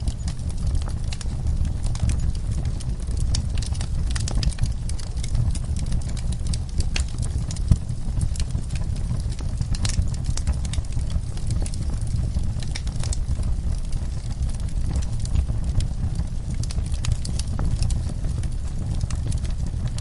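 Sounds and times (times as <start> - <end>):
low rumble: 0.0 - 20.0
wood fire crackling: 0.0 - 20.0.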